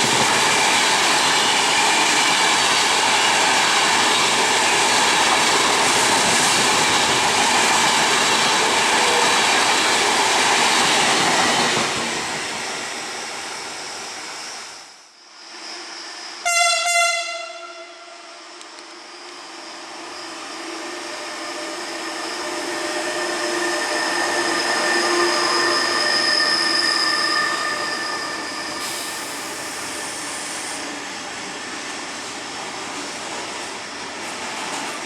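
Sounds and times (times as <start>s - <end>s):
wheels squealing on rails: 0.0s - 35.0s.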